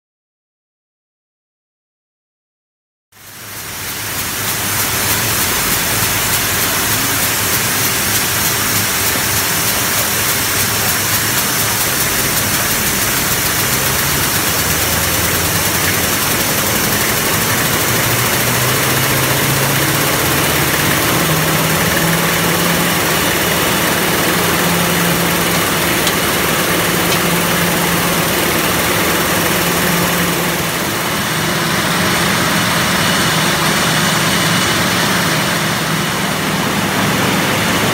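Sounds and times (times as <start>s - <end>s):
bottle labelling machine running: 3.2s - 37.9s.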